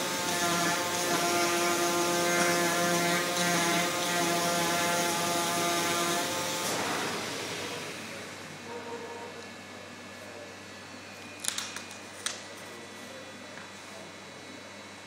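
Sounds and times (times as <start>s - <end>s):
cutting machine whine: 0.0s - 15.0s.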